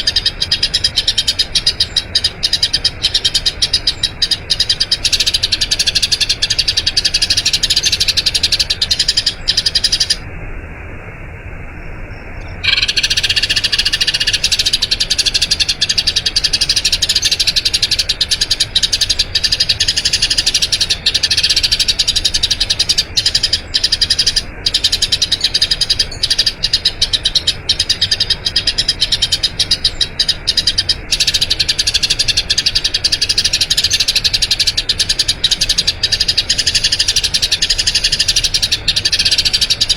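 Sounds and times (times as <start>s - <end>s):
sparrow chirping: 0.0s - 10.2s, 12.4s - 39.9s.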